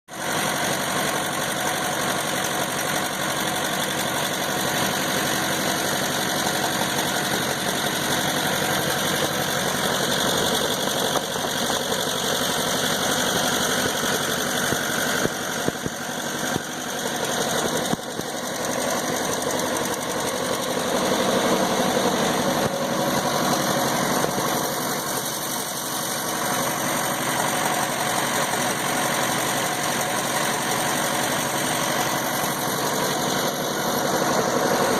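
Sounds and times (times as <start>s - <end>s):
harvester engine running: 0.1s - 34.9s.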